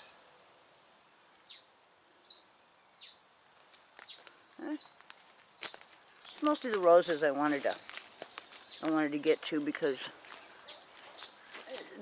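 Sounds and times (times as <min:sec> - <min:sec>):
birds chirping: 0:01.4 - 0:12.0.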